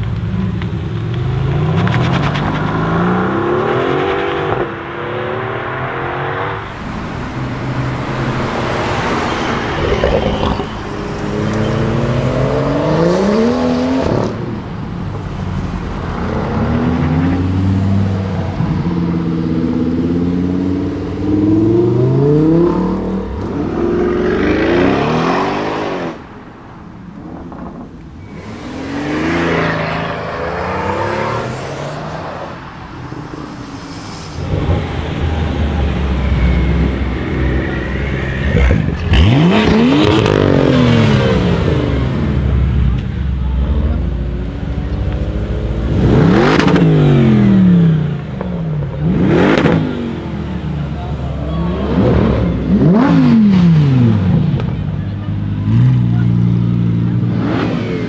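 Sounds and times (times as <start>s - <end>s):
cars accelerating hard: 1.0s - 26.5s, 27.4s - 58.0s.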